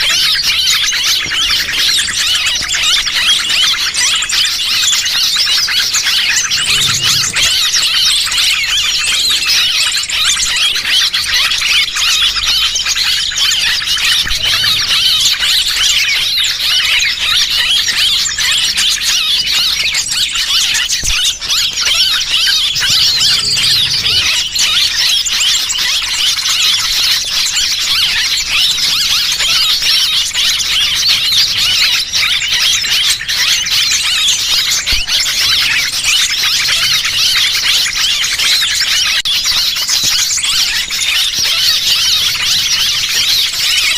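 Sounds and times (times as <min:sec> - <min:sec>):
small birds chattering: 0:00.0 - 0:43.9.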